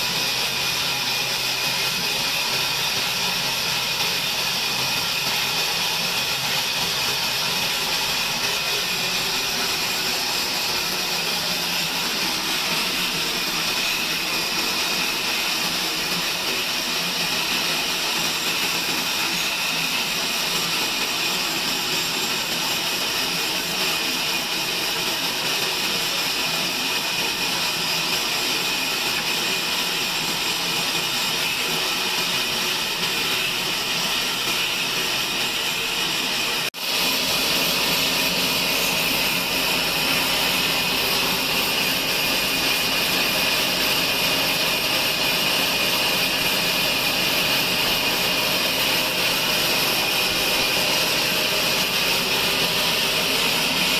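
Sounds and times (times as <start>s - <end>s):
band saw machinery running: 0.0s - 53.9s.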